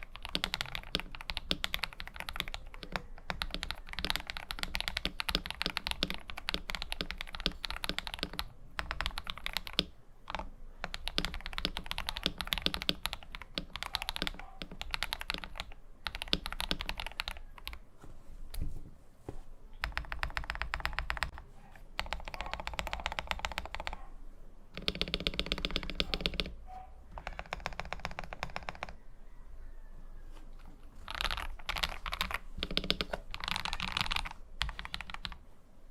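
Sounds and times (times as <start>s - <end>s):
mechanical keyboard typing: 0.0s - 17.8s, 19.8s - 24.0s, 24.7s - 29.0s, 30.9s - 35.4s.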